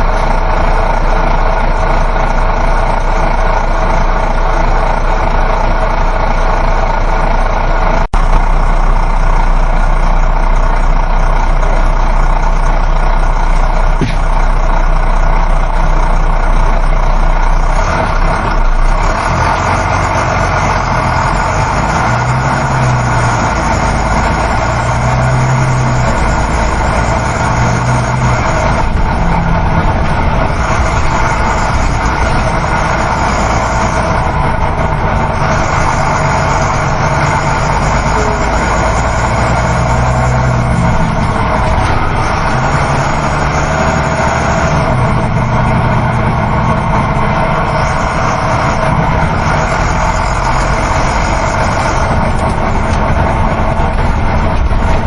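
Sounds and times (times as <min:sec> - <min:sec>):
bus diesel engine drone: 0:00.0 - 0:55.0
road and tyre noise: 0:00.0 - 0:55.0.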